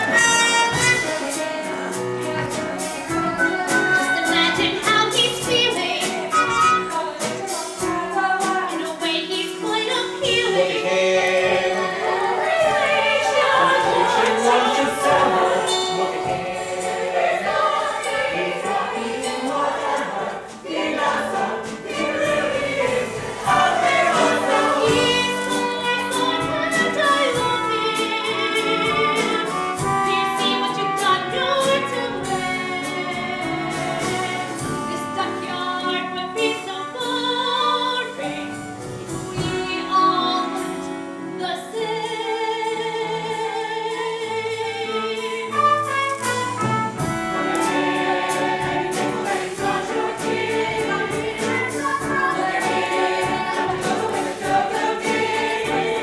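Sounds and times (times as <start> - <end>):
musical accompaniment: 0.0 - 56.0
ensemble singing in harmony: 1.2 - 46.0, 47.1 - 56.0.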